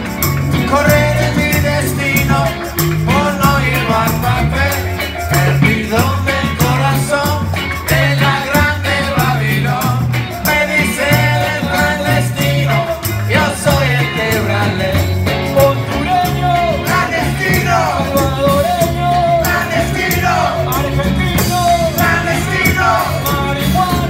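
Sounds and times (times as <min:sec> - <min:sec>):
bass guitar: 0:00.0 - 0:24.0
drums: 0:00.0 - 0:24.0
electric guitar: 0:00.0 - 0:24.0
man and woman singing: 0:00.6 - 0:24.0.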